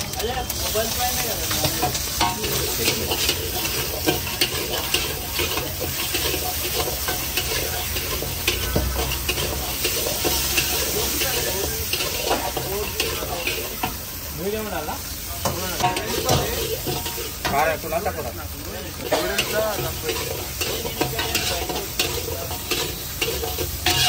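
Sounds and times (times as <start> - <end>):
rice sizzling in a pan: 0.0 - 24.0
ladle scraping a wok: 0.1 - 24.0.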